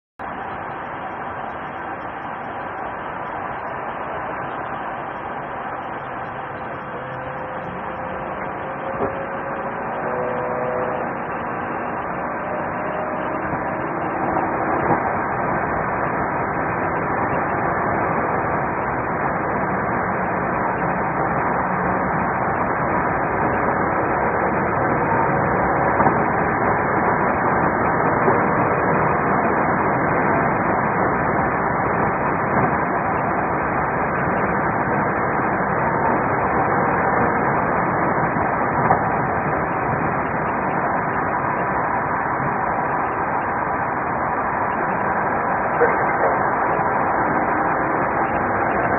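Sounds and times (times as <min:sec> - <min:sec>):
car road and engine noise: 0:00.2 - 0:48.9.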